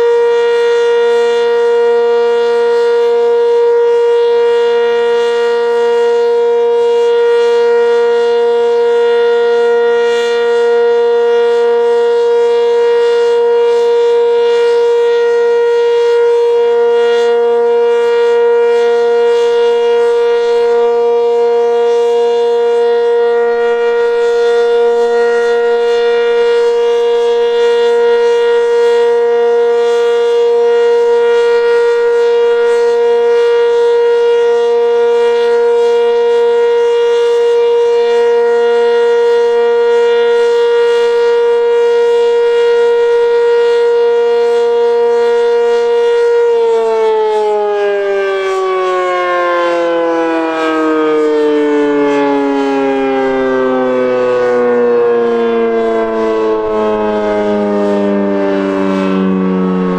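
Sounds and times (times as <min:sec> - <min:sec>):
mechanical siren steady tone: 0:00.0 - 0:59.9.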